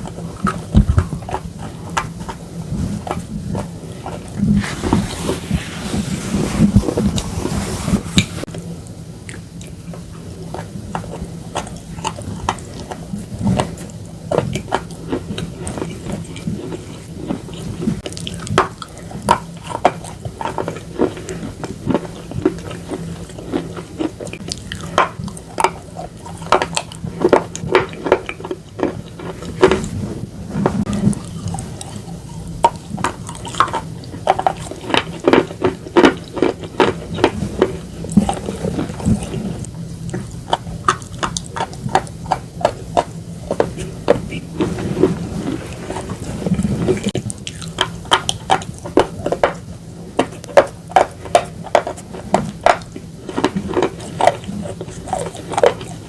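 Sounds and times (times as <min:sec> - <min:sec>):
crunching and chewing: 0:00.0 - 0:56.0.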